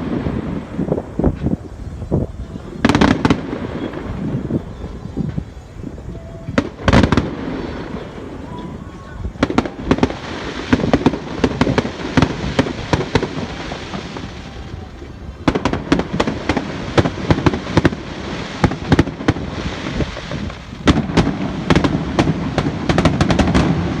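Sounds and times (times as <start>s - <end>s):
fireworks bangs: 0.0s - 24.0s
wind rumble on microphone: 0.0s - 24.0s.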